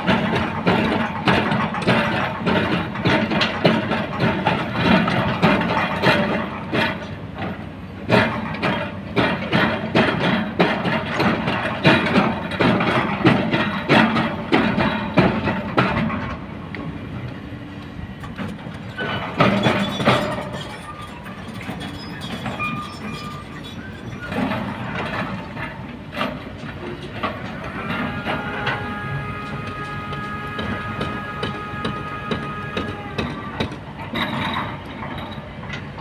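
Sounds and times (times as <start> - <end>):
excavator engine rumble: 0.0 - 36.0.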